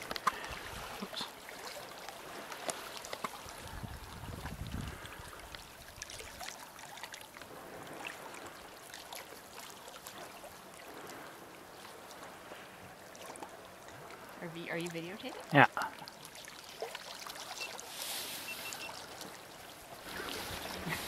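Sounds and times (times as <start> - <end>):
small splashes and drips: 0.0 - 14.4, 15.2 - 21.0
sea water lapping at shoreline: 0.0 - 21.0.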